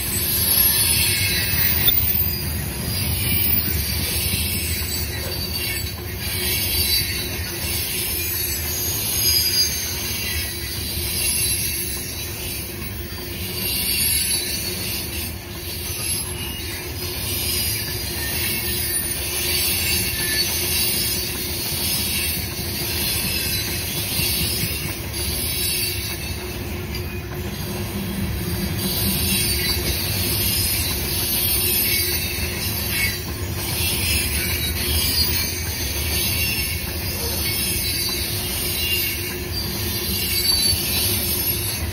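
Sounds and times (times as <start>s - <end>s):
high-pitched wheel squeal: 0.0s - 41.9s
train wheels rumbling on rail: 0.0s - 41.9s.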